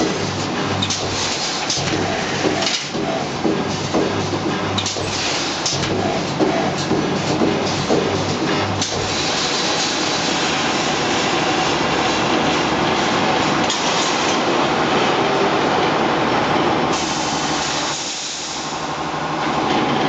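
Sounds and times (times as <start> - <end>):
welding machine clatter and hiss: 0.0 - 15.2, 15.9 - 20.0.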